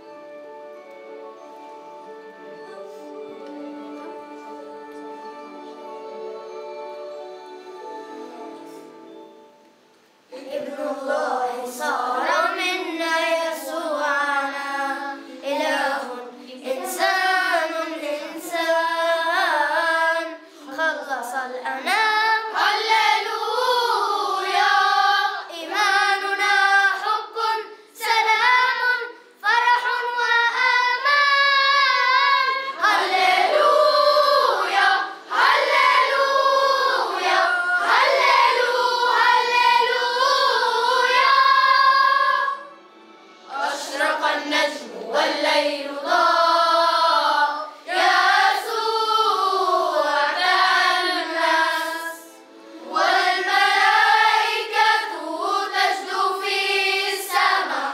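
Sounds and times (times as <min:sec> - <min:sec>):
children's choir singing: 0:00.0 - 0:57.9.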